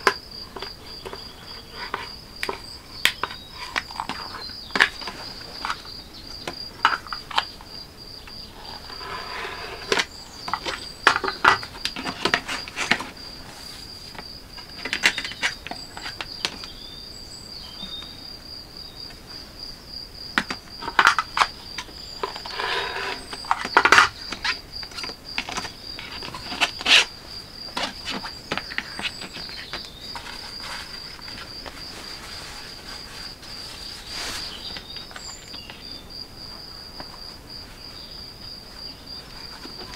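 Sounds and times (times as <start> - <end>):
scraping: 0.0 - 16.7, 20.4 - 35.9, 38.7 - 39.9
high insect trill: 0.0 - 39.9.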